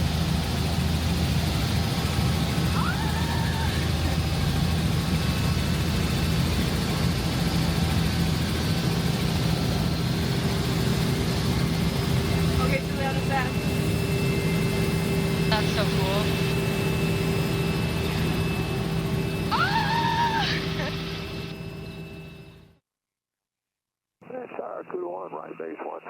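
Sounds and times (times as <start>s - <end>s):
helicopter cabin drone: 0.0s - 22.8s, 24.2s - 26.0s.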